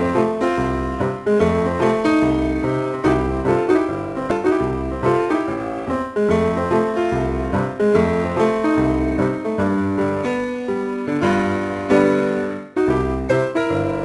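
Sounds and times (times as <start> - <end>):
bouncy keyboard melody: 0.0 - 14.0.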